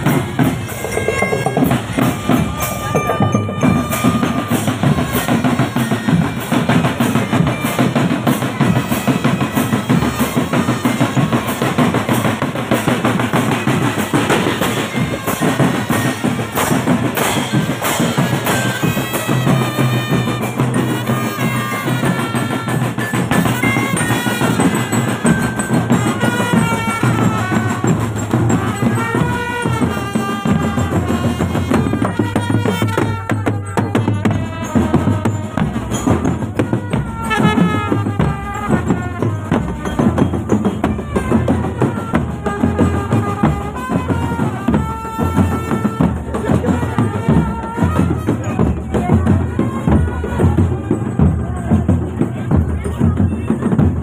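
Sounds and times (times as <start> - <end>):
marching drum band playing: 0.0 - 54.0.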